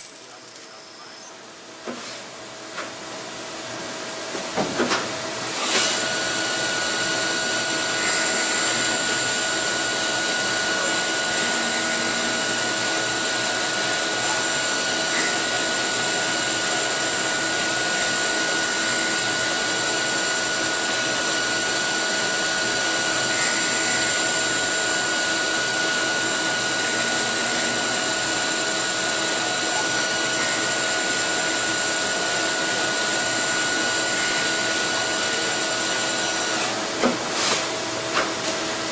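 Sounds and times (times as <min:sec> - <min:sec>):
lathe running with whine: 0:05.2 - 0:37.1.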